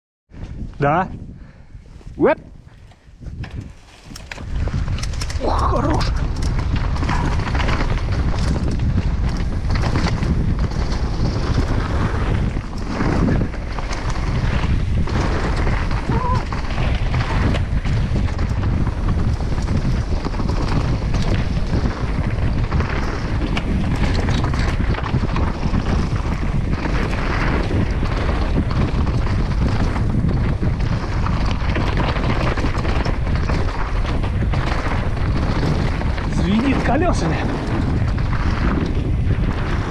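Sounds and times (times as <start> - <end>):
wind rushing over microphone: 0.3 - 39.9
bike knocking and rattling: 2.7 - 39.9
tyres running over dirt and rocks: 2.8 - 39.9.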